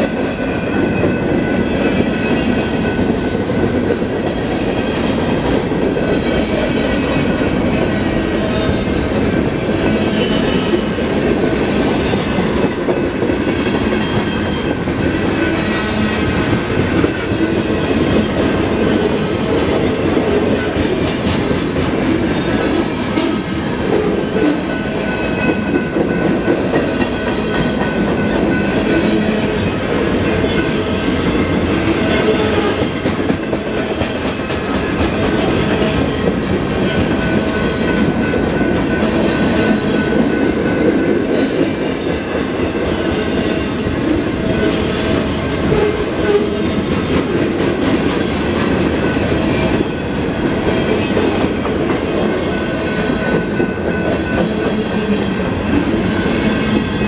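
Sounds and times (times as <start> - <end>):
train wheels clacking over rails: 0.0 - 57.0.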